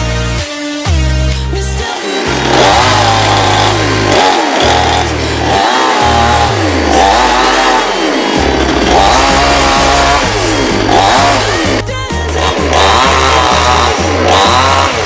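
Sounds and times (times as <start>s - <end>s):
electronic music with heavy bass: 0.0s - 15.0s
chainsaw engine revving: 1.8s - 15.0s.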